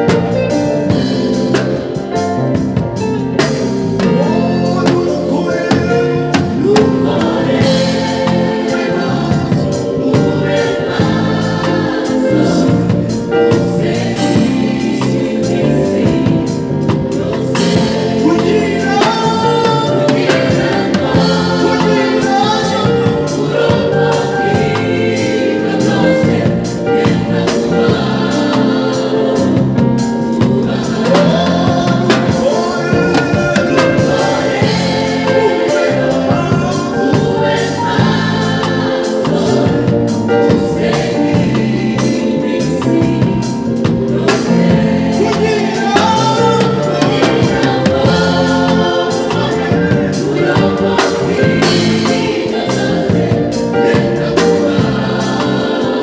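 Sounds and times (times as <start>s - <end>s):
band playing: 0.0s - 56.0s
gospel choir singing: 0.0s - 56.0s.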